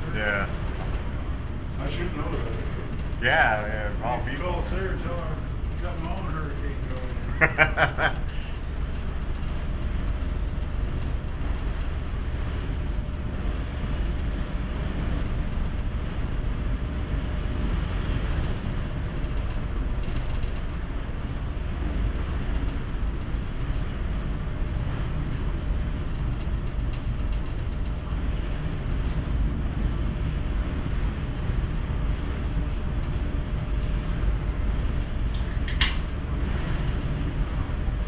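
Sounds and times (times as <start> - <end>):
faint steady hum: 0.0 - 38.0
ship deep rumble and rushing: 0.0 - 38.0.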